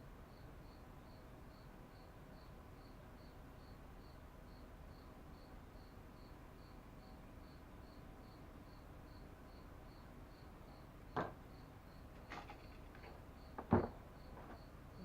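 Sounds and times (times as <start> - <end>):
cricket chirping: 0.3 - 15.0.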